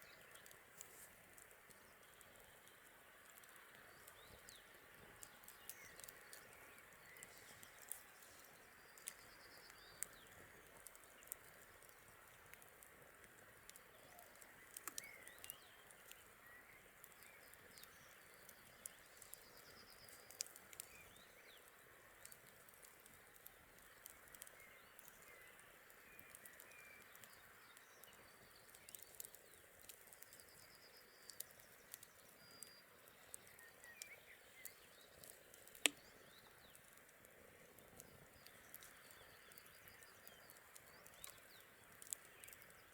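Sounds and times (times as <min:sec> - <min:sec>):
small birds chirping: 0:00.0 - 0:42.9
wood fire crackling: 0:00.0 - 0:42.9.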